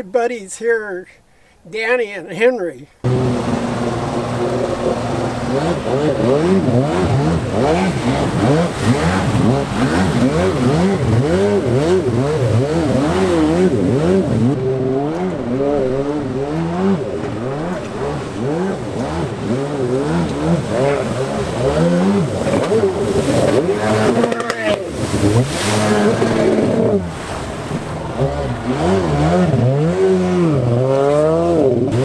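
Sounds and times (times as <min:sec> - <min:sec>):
jet ski engines revving: 0:03.0 - 0:32.0.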